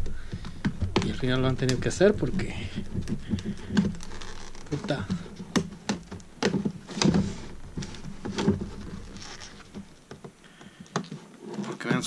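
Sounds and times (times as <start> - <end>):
stiff plastic cracking and knocking: 0.0 - 12.0.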